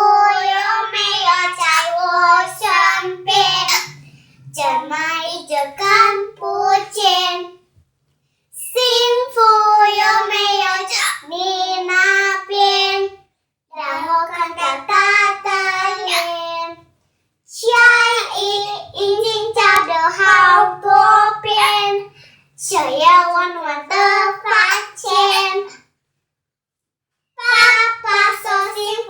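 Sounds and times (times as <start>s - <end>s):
children singing together: 0.0s - 7.6s, 8.6s - 13.2s, 13.8s - 16.8s, 17.6s - 25.8s, 27.4s - 29.0s.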